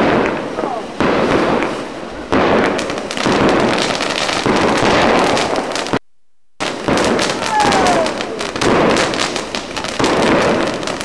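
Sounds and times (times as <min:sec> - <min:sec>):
fireworks crackling hiss: 0:00.0 - 0:06.0, 0:06.6 - 0:11.0.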